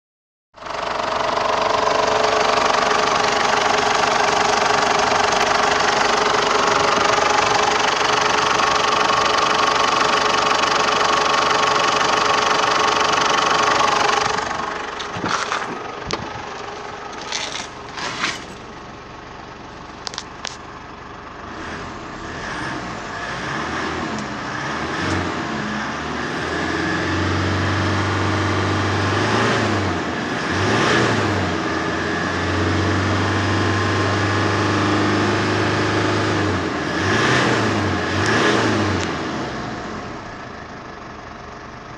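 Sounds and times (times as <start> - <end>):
diesel engine running: 0.6 - 41.9.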